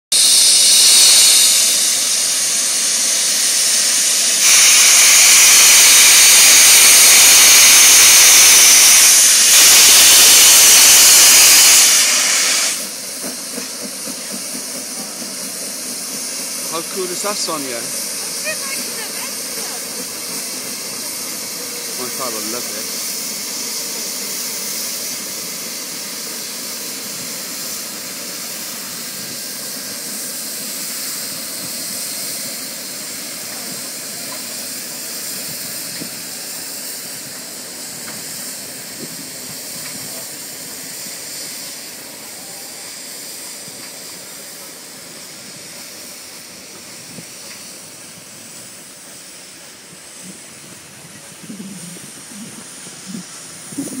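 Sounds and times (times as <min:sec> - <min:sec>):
steam hissing: 0:00.1 - 0:54.0.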